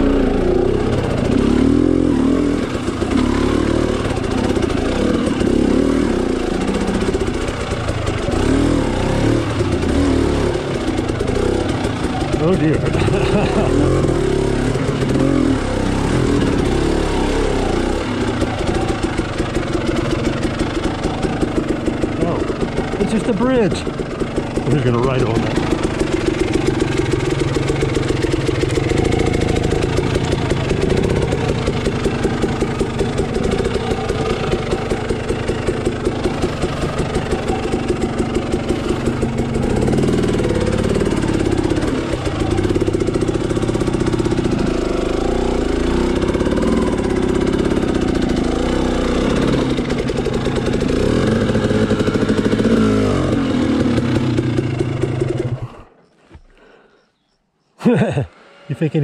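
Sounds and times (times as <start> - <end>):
dirt bike engine revving: 0.0 - 56.0, 57.8 - 59.0.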